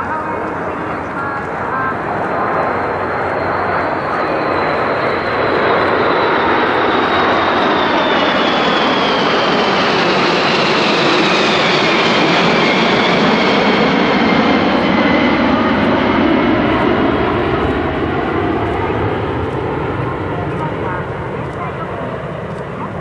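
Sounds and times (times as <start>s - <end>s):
jet planes flying past: 0.0s - 23.0s.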